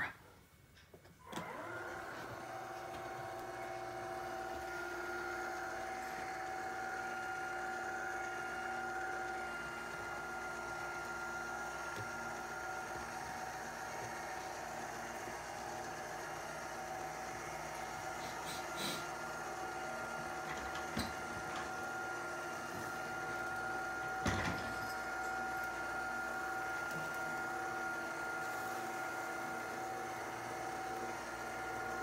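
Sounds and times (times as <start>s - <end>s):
motor humming with gear whine: 1.2s - 32.0s.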